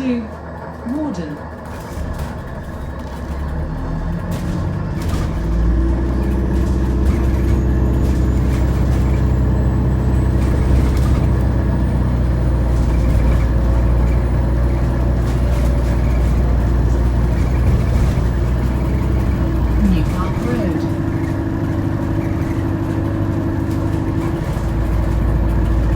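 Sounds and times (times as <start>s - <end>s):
bus interior rumble: 0.0s - 25.9s
droning drivetrain tones: 0.0s - 25.9s.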